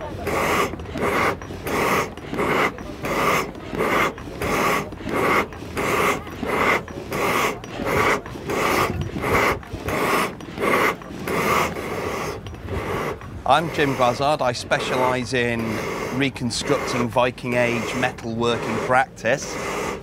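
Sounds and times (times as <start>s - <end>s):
hand bellows whooshing air: 0.0s - 20.0s.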